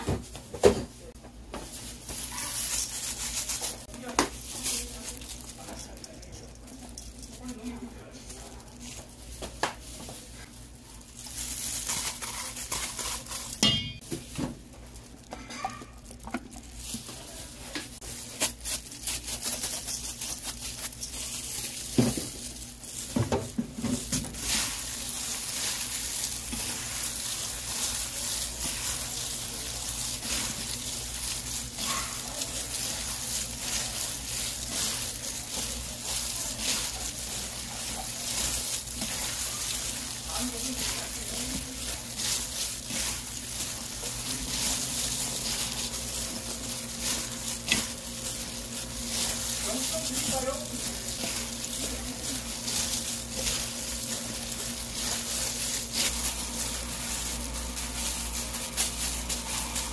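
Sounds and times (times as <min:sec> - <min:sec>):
hands mixing rice in a bowl: 0:00.0 - 0:59.9.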